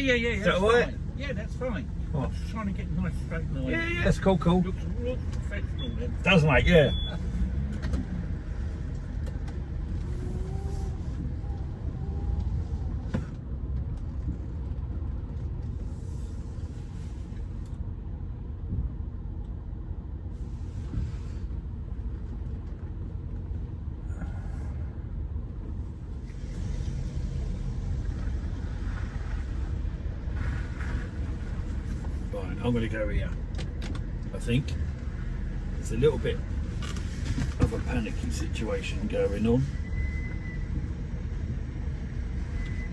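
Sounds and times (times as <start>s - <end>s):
car engine low rumble: 0.0s - 42.9s.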